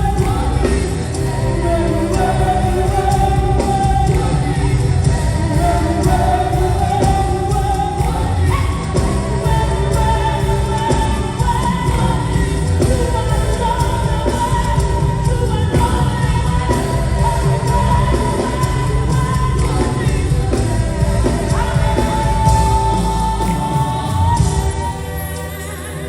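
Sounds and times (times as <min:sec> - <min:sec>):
band with drums and bass: 0:00.0 - 0:26.0.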